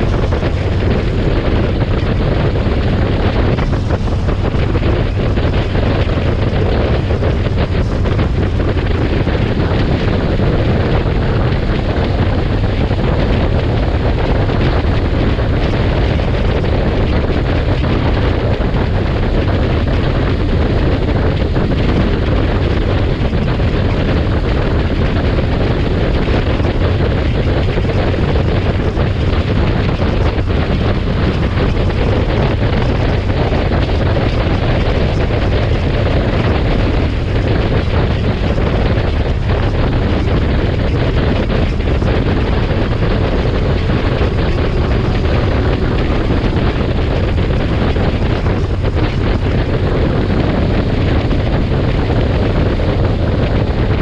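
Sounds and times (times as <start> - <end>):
engine noise: 0.0 - 54.0
road noise: 0.0 - 54.0
wind buffeting microphone: 0.0 - 54.0.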